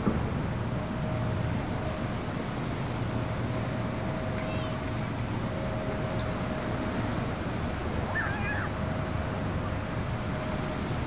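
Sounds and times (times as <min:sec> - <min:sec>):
faint hum: 0:00.5 - 0:11.0.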